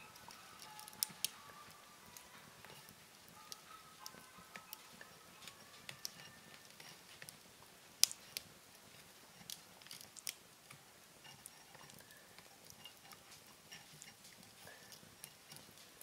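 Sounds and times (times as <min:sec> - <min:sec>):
faint fire hiss: 0:00.0 - 0:16.0
fire popping: 0:00.0 - 0:16.0
wood fire crackling: 0:00.0 - 0:16.0.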